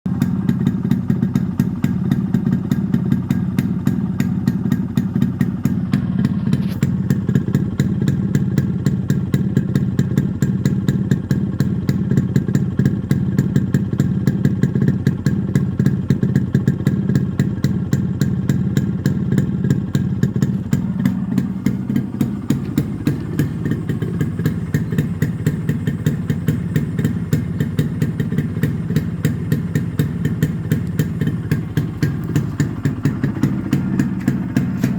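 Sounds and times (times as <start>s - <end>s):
two-stroke motorcycle engine running: 0.1s - 34.9s.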